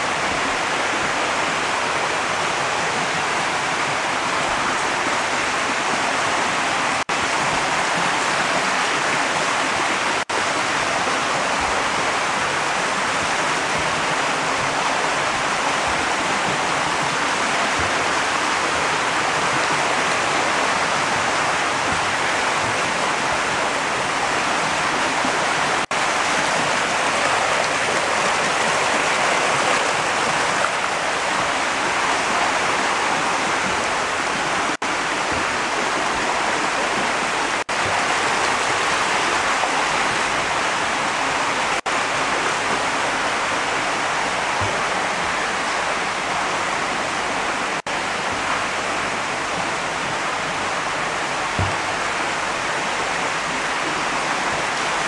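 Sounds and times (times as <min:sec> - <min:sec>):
water rushing and splashing in tanks: 0:00.0 - 0:55.0.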